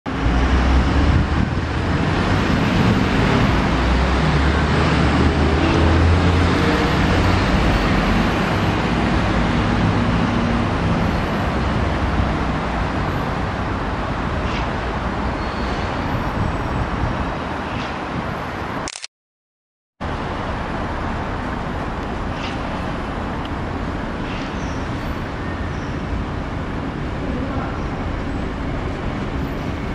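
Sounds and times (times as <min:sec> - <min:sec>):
city traffic noise: 0:00.1 - 0:19.1, 0:20.0 - 0:29.9.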